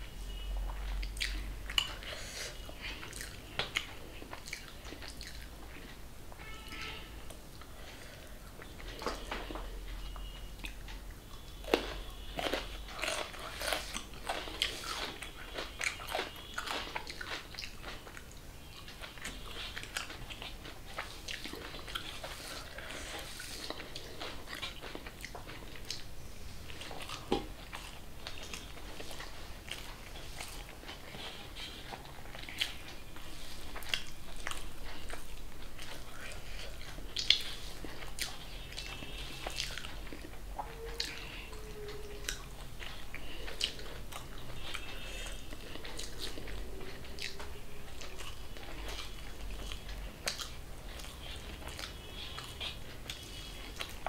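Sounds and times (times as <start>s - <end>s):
person chewing and smacking: 0.3s - 54.0s.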